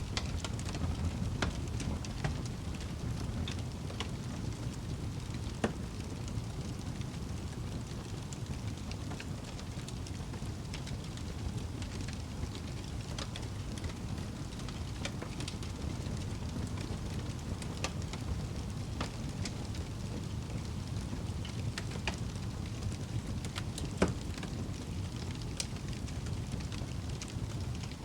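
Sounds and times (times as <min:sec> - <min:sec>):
fire crackles and pops: 0:00.0 - 0:28.0
wood fire rumbling: 0:00.0 - 0:28.0.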